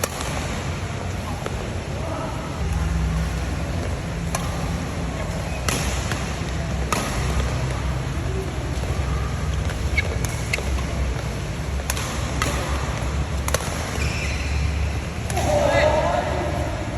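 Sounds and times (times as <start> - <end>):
rackets striking shuttlecock: 0.0 - 0.8, 2.6 - 16.7
steady low rumble: 0.0 - 16.9.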